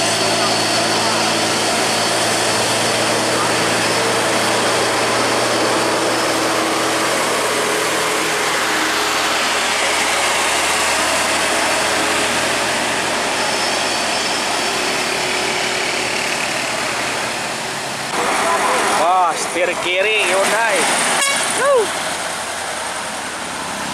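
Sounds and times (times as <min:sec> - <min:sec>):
heavy truck diesel engines: 0:00.0 - 0:23.9.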